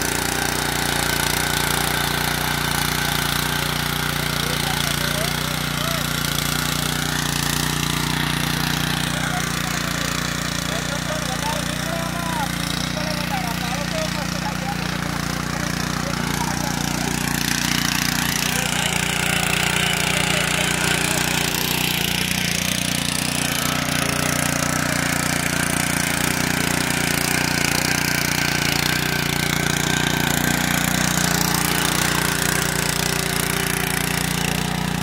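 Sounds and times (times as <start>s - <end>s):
tiller engine running: 0.0s - 35.0s.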